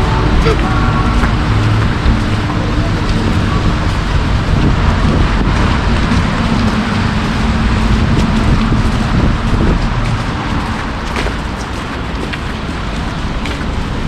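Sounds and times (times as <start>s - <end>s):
engine hum: 0.0s - 14.0s
rumble of traffic: 0.0s - 14.0s.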